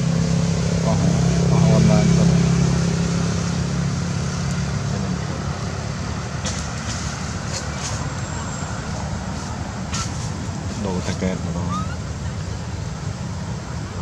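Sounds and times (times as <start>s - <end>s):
distant traffic hum: 0.0s - 14.0s
vehicle engine rumbling: 0.0s - 14.0s.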